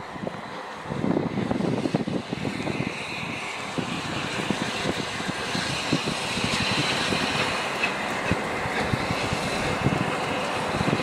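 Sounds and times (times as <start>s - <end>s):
rushing hiss: 0.0s - 11.0s
train wheels clattering on rails: 0.0s - 11.0s.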